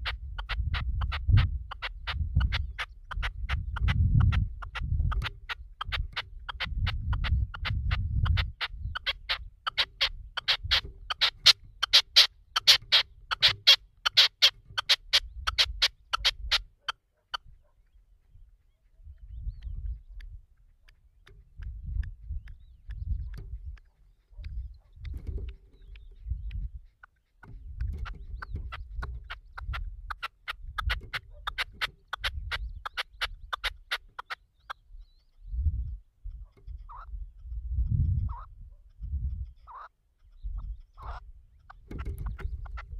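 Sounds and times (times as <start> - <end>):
wind rumbling on microphone: 0.0 - 13.8, 14.6 - 16.8, 17.4 - 42.9
partridge calling short sharp notes: 0.0 - 35.4.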